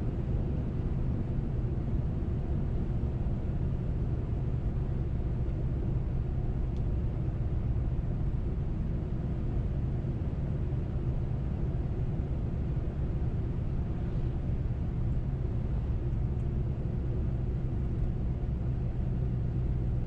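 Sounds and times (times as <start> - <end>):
air conditioning: 0.0 - 20.0.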